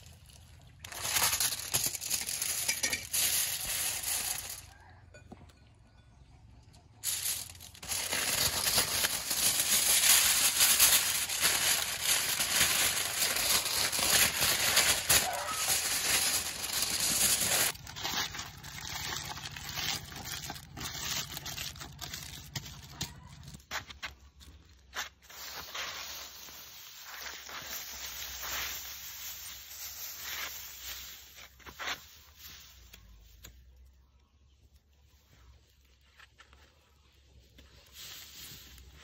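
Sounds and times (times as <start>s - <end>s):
aluminium foil crinkling: 0.0s - 4.8s, 7.0s - 34.0s.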